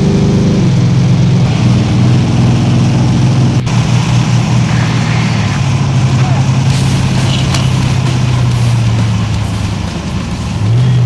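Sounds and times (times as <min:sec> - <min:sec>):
engine exhaust drone: 0:00.0 - 0:11.0
road noise: 0:00.0 - 0:11.0.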